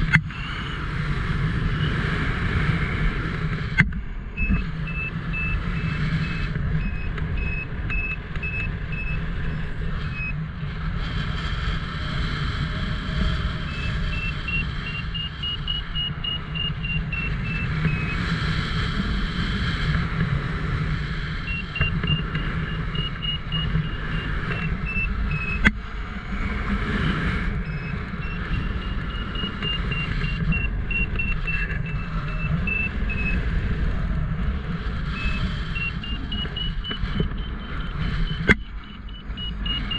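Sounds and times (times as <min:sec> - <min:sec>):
variometer beeping: 0:00.0 - 0:10.4, 0:13.2 - 0:19.2, 0:21.2 - 0:25.8, 0:26.9 - 0:39.9
wind buffeting microphone: 0:00.0 - 0:39.9.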